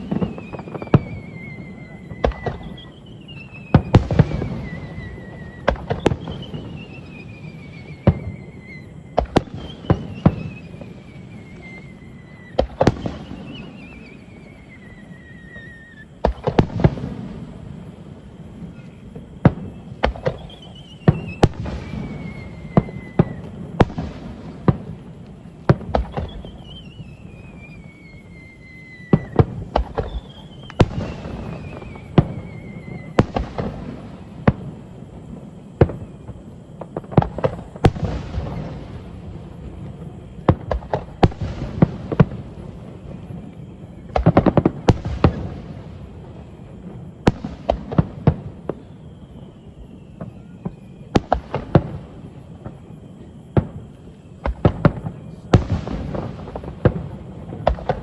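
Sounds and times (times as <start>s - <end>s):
fireworks bursts and crackles: 0.0s - 58.0s
fireworks whistles sliding down: 0.0s - 58.0s.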